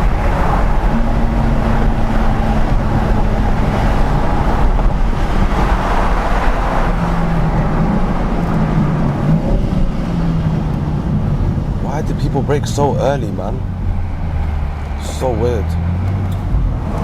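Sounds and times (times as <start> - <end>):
car engine under way: 0.0 - 17.0
road and wind noise: 0.0 - 17.0.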